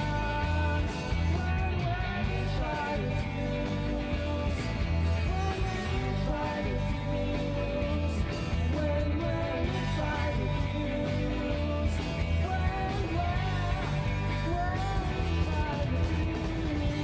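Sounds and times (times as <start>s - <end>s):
drums: 0.0s - 17.0s
electric bass: 0.0s - 17.0s
electric guitars: 0.0s - 17.0s
person singing: 0.0s - 17.0s.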